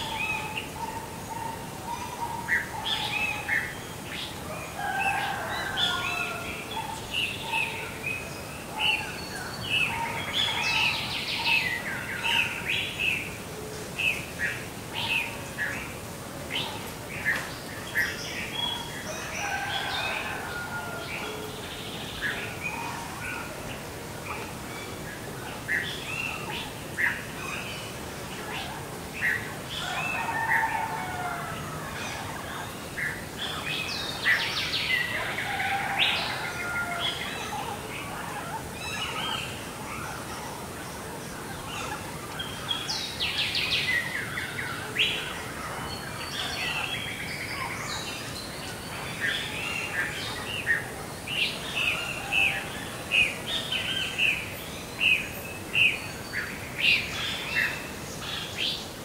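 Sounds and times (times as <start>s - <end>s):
birds chirping and singing: 0.0s - 59.0s
faint background hiss: 0.0s - 59.0s.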